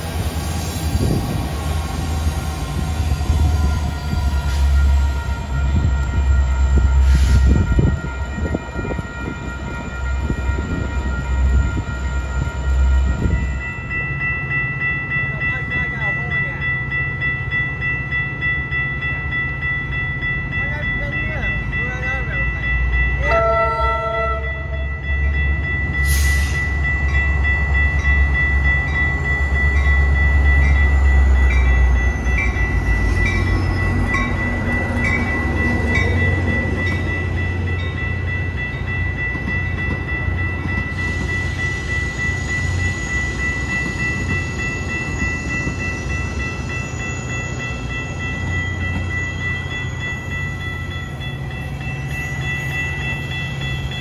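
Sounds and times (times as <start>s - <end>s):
steady high tone: 0.0s - 54.0s
train passing rumble: 0.0s - 54.0s.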